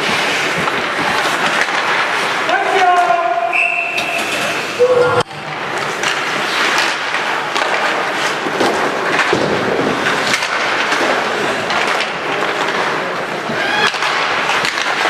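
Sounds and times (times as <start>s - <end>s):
skate blades scraping ice: 0.0s - 3.4s, 5.4s - 15.0s
hockey sticks and puck clacking: 0.0s - 15.0s.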